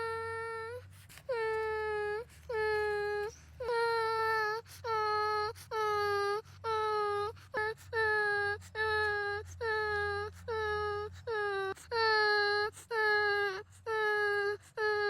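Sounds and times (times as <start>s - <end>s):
high whining cry: 0.0s - 15.0s.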